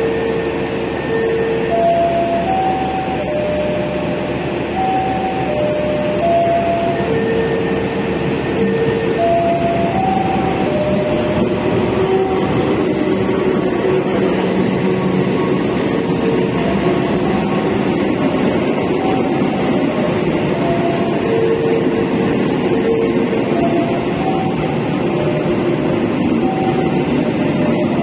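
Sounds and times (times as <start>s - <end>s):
passenger train rumbling past: 0.0s - 28.0s.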